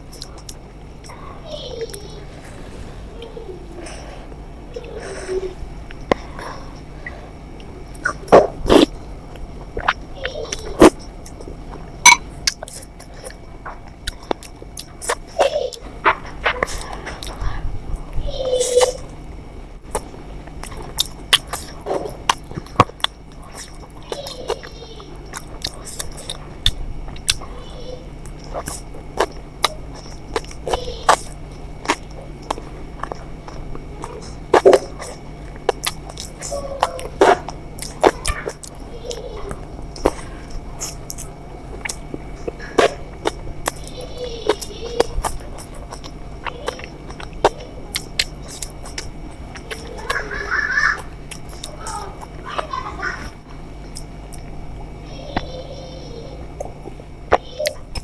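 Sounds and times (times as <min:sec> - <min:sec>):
mouth clicks and smacks: 0:00.0 - 0:01.2, 0:05.8 - 0:27.6, 0:28.2 - 0:50.3, 0:51.0 - 0:55.5, 0:56.5 - 0:58.0
chewing food: 0:05.8 - 0:17.6, 0:18.6 - 0:54.6.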